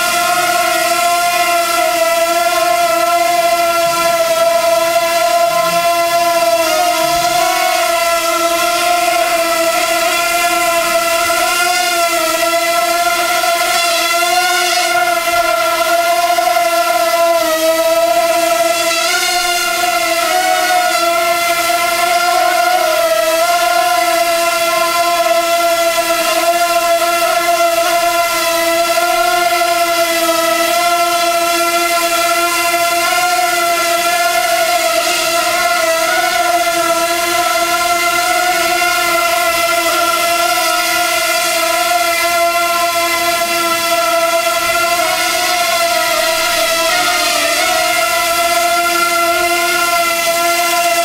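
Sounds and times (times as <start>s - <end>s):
drone propellers whining: 0.0s - 51.0s.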